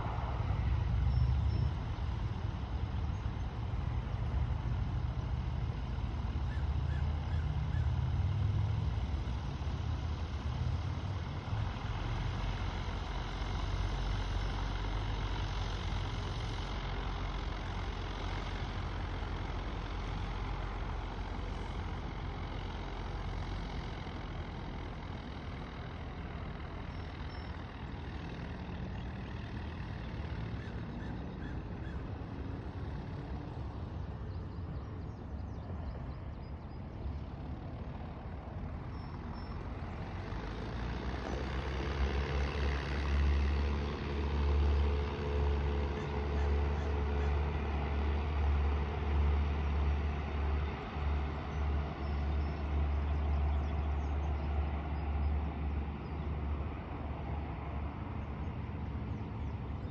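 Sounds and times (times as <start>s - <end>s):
distant engines rumbling: 0.0s - 59.9s.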